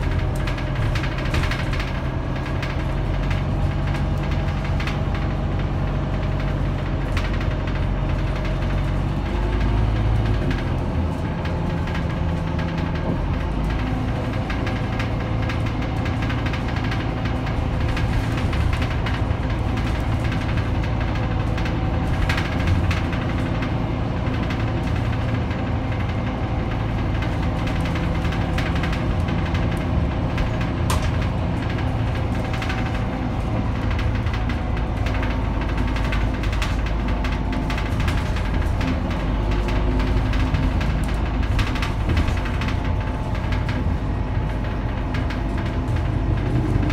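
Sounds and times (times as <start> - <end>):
bus diesel engine humming: 0.0 - 46.9.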